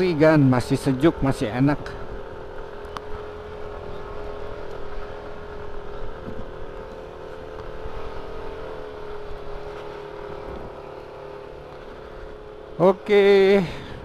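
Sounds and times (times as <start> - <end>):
scooter engine running: 0.0 - 14.0.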